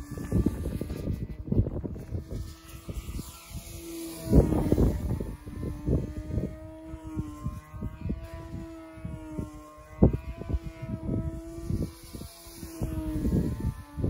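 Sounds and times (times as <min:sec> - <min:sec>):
model airplane motor droning: 0:00.0 - 0:14.0
wind buffeting microphone: 0:00.0 - 0:14.0.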